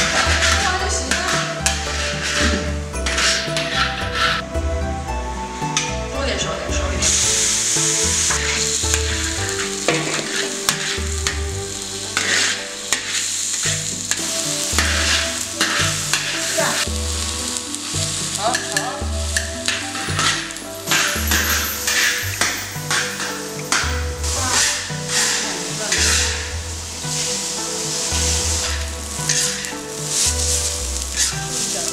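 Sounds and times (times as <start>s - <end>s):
food sizzling in hot oil: 0.0s - 4.5s, 5.4s - 31.9s
metal spatula scraping wok: 0.0s - 4.5s, 7.0s - 31.9s.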